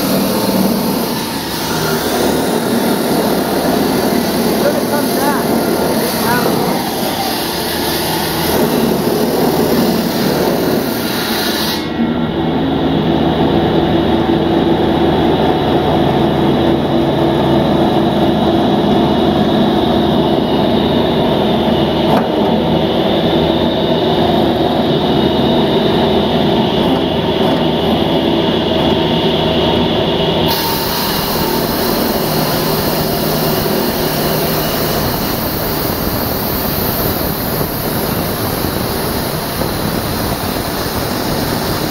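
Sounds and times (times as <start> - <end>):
engine drone: 0.0 - 41.9.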